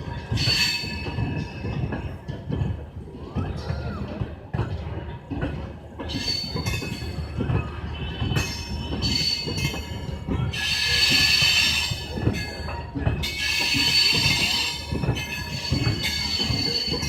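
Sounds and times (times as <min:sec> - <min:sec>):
train wheels knocking on rail joints: 0:00.0 - 0:17.0.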